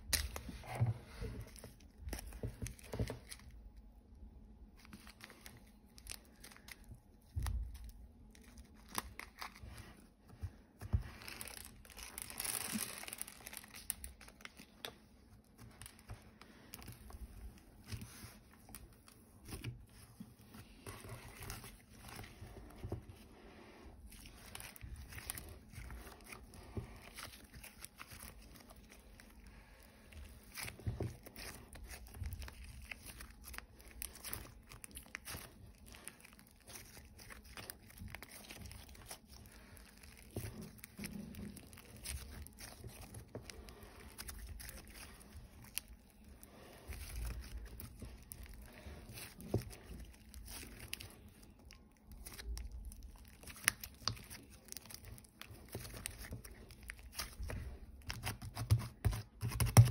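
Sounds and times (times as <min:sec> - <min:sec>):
slime squelching: 0:00.0 - 0:59.9.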